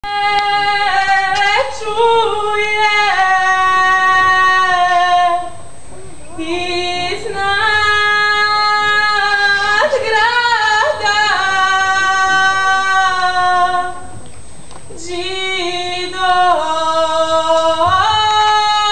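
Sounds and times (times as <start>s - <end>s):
woman singing unaccompanied: 0.0s - 5.6s, 6.4s - 14.1s, 14.9s - 18.9s.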